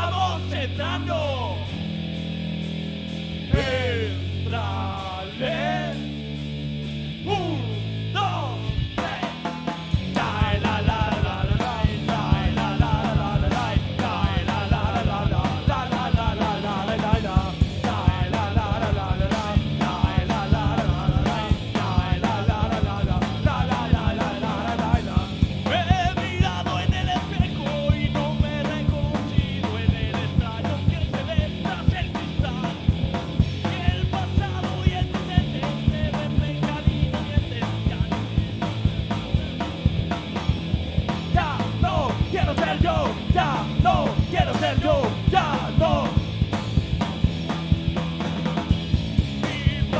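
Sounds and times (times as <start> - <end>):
punk rock band playing: 0.0 - 49.9.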